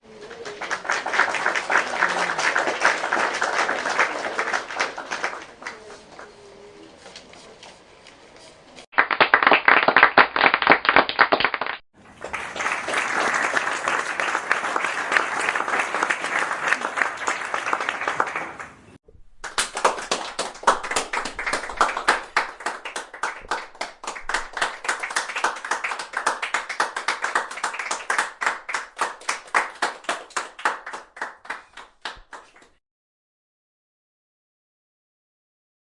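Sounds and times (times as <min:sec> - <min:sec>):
crowd applause: 0:00.0 - 0:06.4, 0:09.0 - 0:32.8
small group clapping: 0:00.0 - 0:06.4, 0:08.9 - 0:32.8
loud dense clapping: 0:00.2 - 0:06.2, 0:08.9 - 0:32.8.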